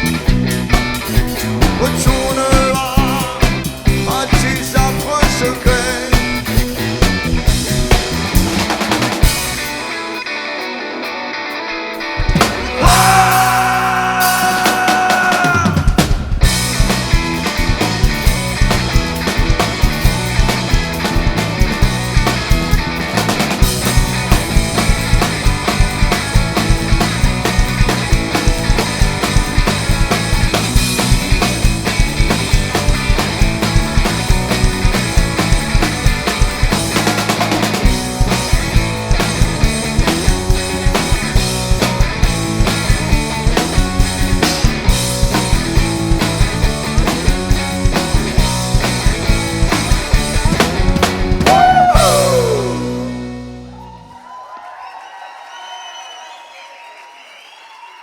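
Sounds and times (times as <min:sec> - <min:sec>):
drums driving beat: 0:00.0 - 0:10.2, 0:12.1 - 0:54.0
rock band playing: 0:00.0 - 0:54.2.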